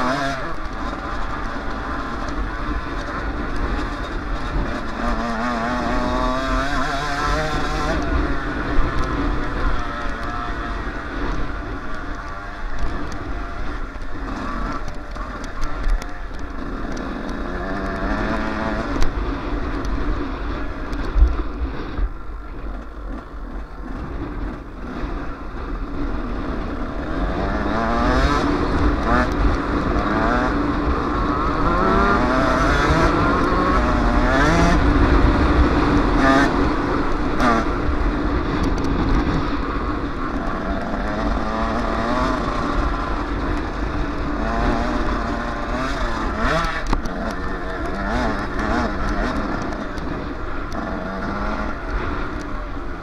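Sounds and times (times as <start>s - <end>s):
motocross engine revving: 0.0s - 19.7s, 26.4s - 53.0s.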